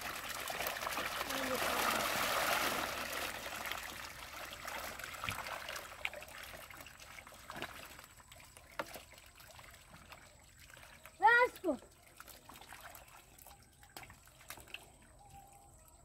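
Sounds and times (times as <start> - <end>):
water rushing and dripping: 0.0 - 13.2
small splashes and taps: 0.0 - 15.4.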